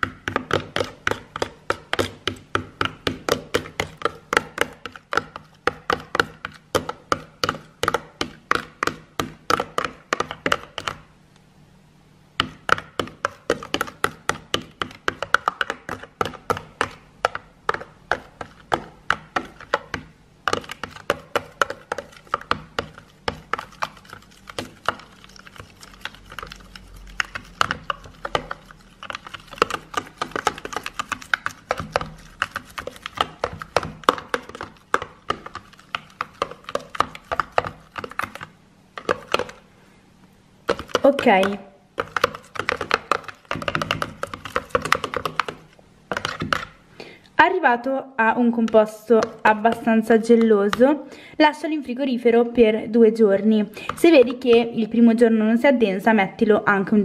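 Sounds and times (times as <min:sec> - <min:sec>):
spoon knocking plastic tub: 0:00.0 - 0:11.0, 0:12.4 - 0:39.6, 0:40.6 - 0:46.8, 0:48.5 - 0:50.9
spoon stirring slime: 0:00.0 - 0:11.1, 0:12.4 - 0:39.8, 0:40.6 - 0:47.6, 0:48.2 - 0:55.3.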